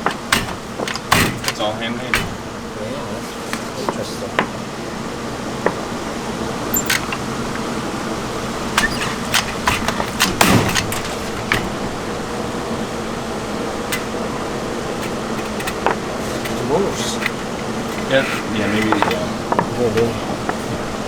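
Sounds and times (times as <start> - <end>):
shop machinery hum: 0.0 - 21.0.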